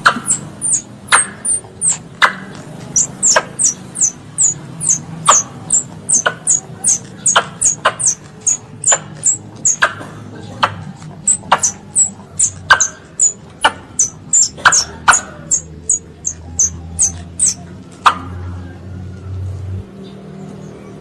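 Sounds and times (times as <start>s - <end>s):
squirrel chirping: 0.0s - 10.0s, 10.6s - 17.7s.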